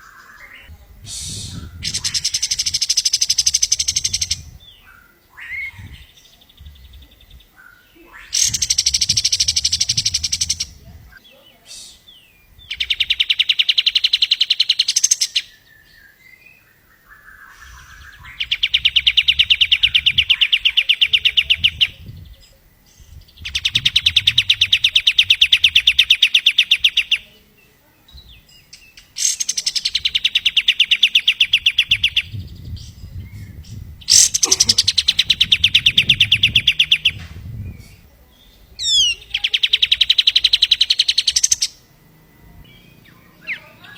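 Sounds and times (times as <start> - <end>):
songbird fast trills: 0.0 - 27.5, 28.3 - 43.9.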